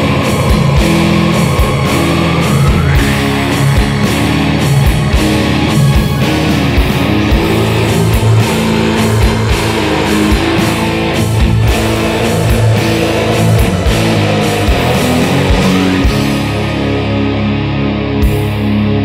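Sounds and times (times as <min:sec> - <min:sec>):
slow heavy guitars and bass: 0:00.0 - 0:19.0.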